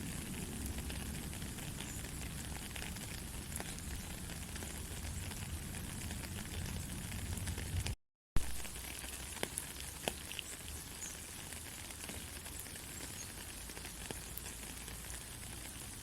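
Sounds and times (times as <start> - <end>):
soft rain hissing: 0.0 - 16.0
water drips: 0.0 - 16.0.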